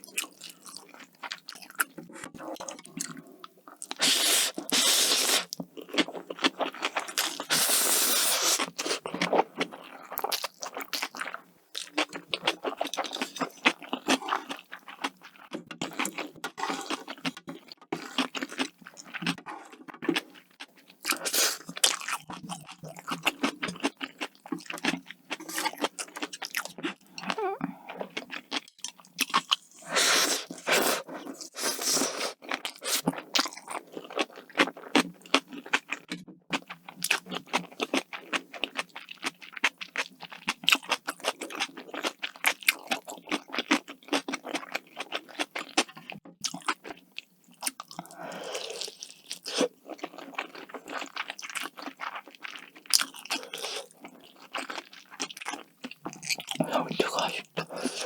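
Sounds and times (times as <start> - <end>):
crunchy chewing: 0.1 - 58.0.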